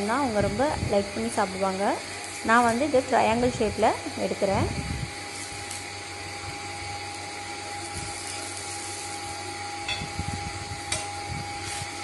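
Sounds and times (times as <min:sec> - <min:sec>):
batter frying hiss: 0:00.0 - 0:12.0.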